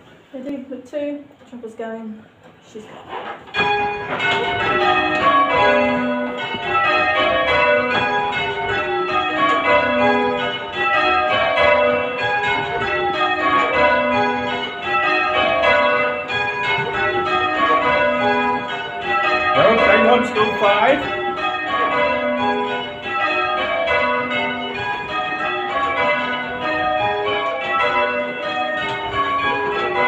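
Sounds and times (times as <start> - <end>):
church bells ringing rounds: 3.5 - 30.0.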